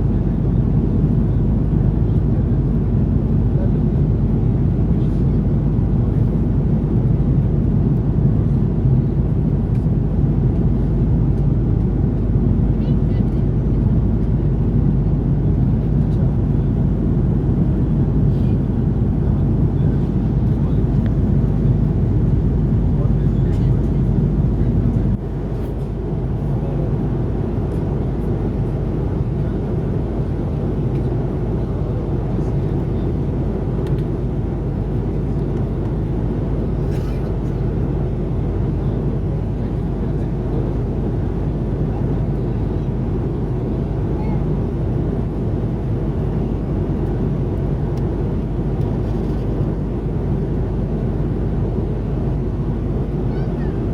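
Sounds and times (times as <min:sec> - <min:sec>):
airliner cabin rumble: 0:00.0 - 0:53.9.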